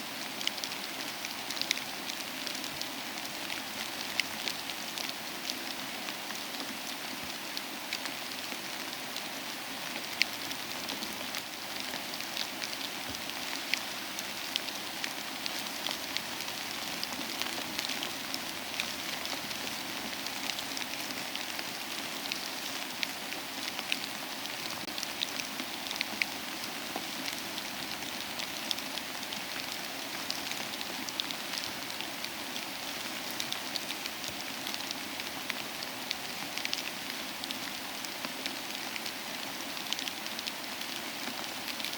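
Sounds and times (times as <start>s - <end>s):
soft rain hissing: 0.0s - 41.9s.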